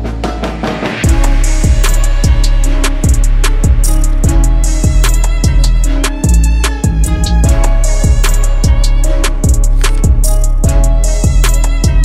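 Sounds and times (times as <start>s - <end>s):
drum beat: 0.0s - 12.0s.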